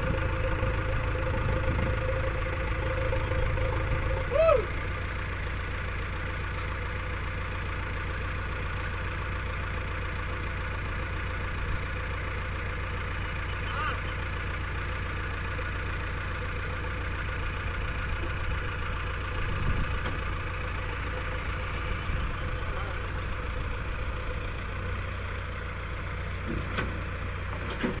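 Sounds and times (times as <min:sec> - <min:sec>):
diesel engines idling: 0:00.0 - 0:28.0.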